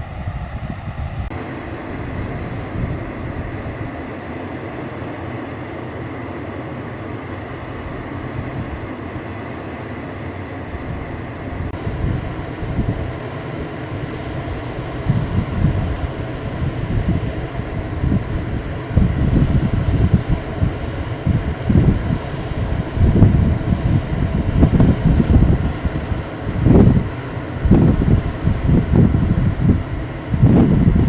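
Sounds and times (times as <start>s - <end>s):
wind buffeting the microphone: 0.0s - 4.0s, 7.8s - 9.0s, 10.7s - 31.0s.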